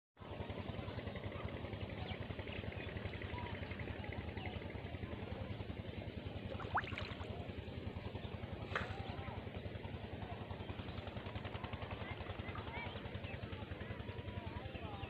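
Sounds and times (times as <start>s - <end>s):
engine running with even putter: 0.2s - 15.0s.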